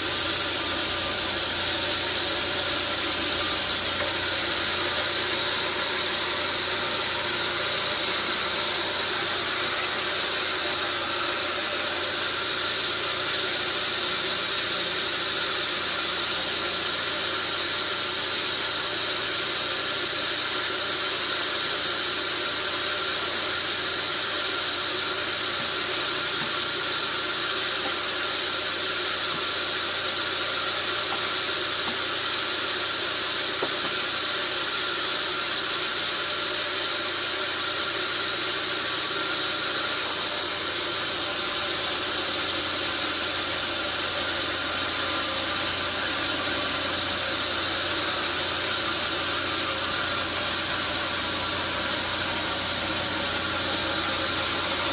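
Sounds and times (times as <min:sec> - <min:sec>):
sawmill saw running: 0:00.0 - 0:54.9.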